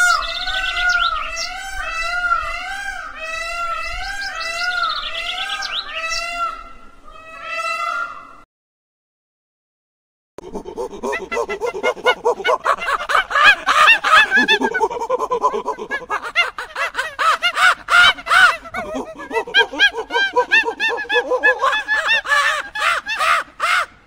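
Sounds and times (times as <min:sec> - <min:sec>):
waterfowl calling: 0:00.0 - 0:08.3, 0:10.4 - 0:24.0.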